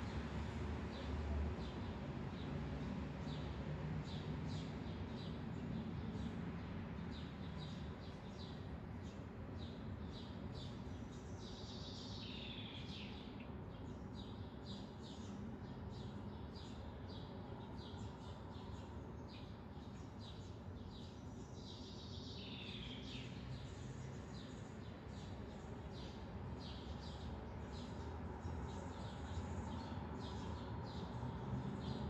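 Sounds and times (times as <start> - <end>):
small birds chirping: 3.2 - 32.0.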